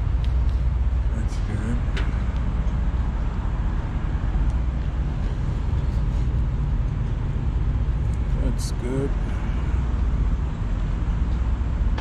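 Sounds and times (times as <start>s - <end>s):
vehicle and road noise rumble: 0.0s - 12.0s.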